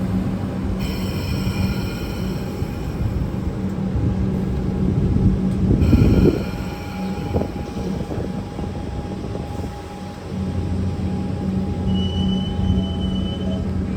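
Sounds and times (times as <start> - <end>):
electric train rumble: 0.0 - 13.9.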